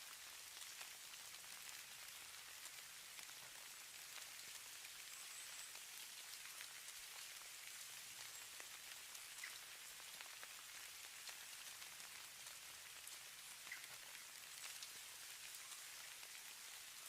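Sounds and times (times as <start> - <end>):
light rain pattering: 0.0 - 17.0.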